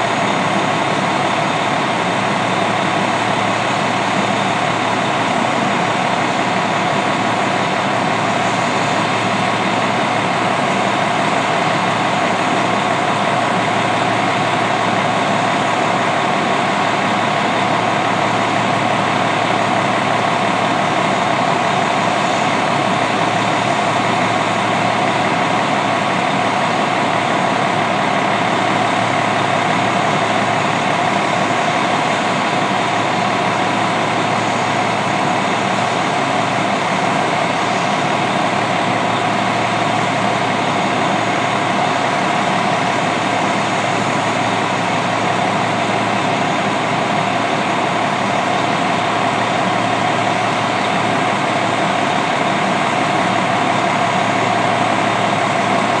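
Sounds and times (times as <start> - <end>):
diesel bus engine idling: 0.0 - 56.0.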